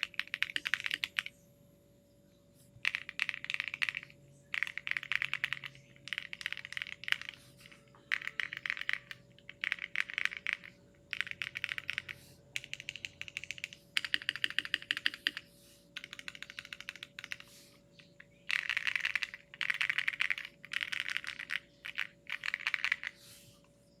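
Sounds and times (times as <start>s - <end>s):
mechanical keyboard typing: 0.0s - 1.3s, 2.8s - 15.4s, 16.0s - 17.5s, 18.2s - 23.2s.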